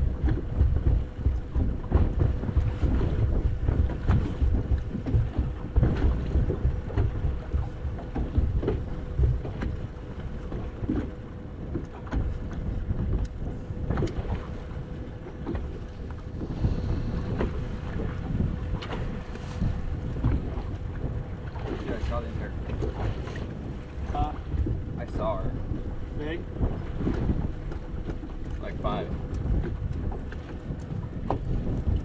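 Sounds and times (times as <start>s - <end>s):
water lapping against boat hull: 0.0s - 32.0s
wind buffeting microphone: 0.0s - 32.0s.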